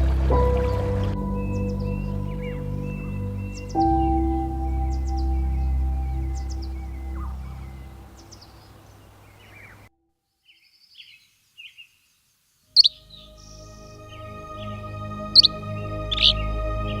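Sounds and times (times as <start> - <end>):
relaxation music with held drone: 0.0 - 9.9, 12.7 - 17.0
bird chirps: 0.3 - 17.0.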